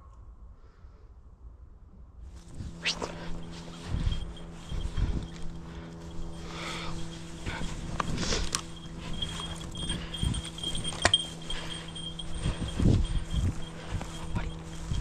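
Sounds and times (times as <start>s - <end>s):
footsteps through dry grass: 2.3s - 15.0s
steady low hum: 2.3s - 15.0s
light metallic jingling: 2.5s - 15.0s.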